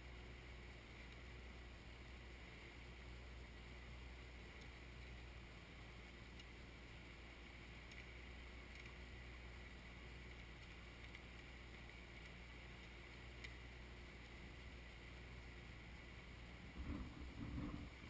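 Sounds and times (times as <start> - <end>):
distant tractor engine hum: 0.0 - 18.0
faint ticks: 0.6 - 18.0.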